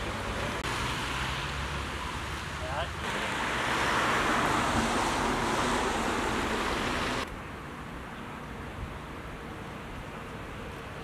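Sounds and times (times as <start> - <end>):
traffic road noise: 0.0 - 11.0
wind: 0.0 - 11.0.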